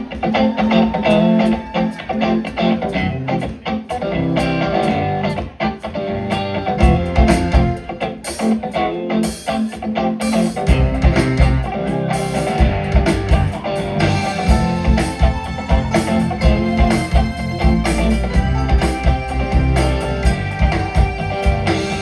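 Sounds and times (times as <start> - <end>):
bass: 0.0 - 22.0
drums: 0.0 - 22.0
electric guitar: 0.0 - 22.0.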